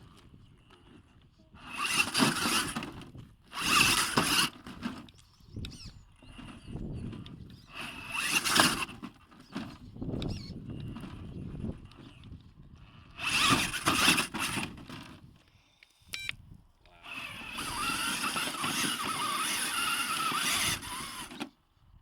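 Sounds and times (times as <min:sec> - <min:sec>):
toy truck motor and gear whine: 0:00.1 - 0:12.4, 0:13.0 - 0:15.3, 0:16.9 - 0:21.6.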